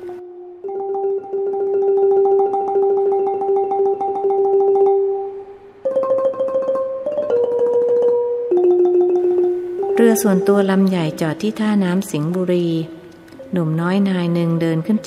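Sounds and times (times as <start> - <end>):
instrumental music with tremolo notes: 0.0 - 15.0.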